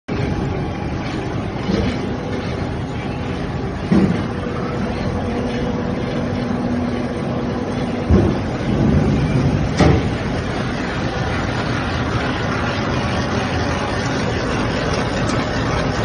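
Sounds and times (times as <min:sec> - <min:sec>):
pellet mill machine running: 0:00.1 - 0:16.0.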